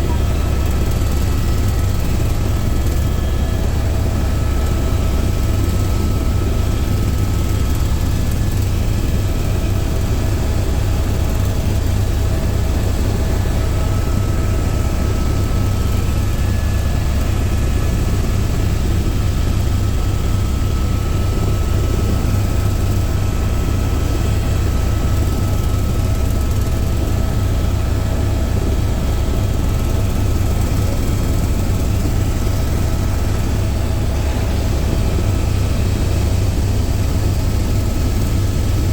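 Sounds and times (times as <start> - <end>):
helicopter rotor and turbine: 0.0 - 38.9
thin steady whine: 0.0 - 38.9.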